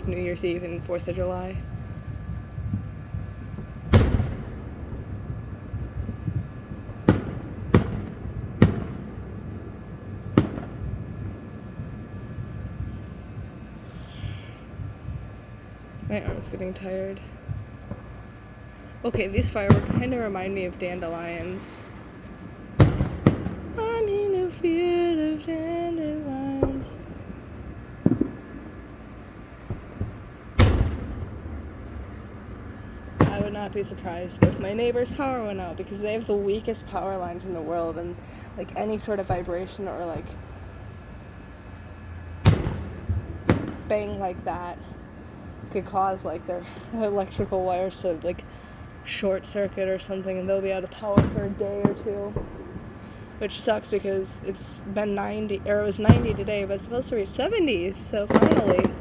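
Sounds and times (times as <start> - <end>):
firework shells bursting: 0.0 - 16.8, 17.4 - 49.6, 50.4 - 59.0
low rumble of distant booms: 0.0 - 23.8, 24.7 - 49.0, 50.9 - 53.4.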